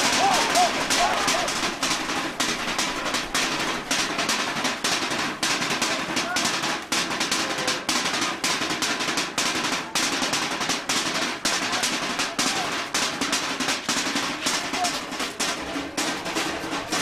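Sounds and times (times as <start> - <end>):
fast snare drumming: 0.0 - 17.0.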